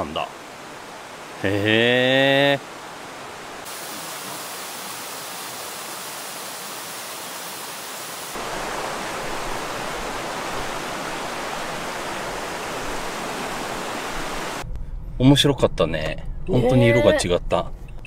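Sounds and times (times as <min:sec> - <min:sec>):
fast mountain stream rushing: 0:00.0 - 0:14.6.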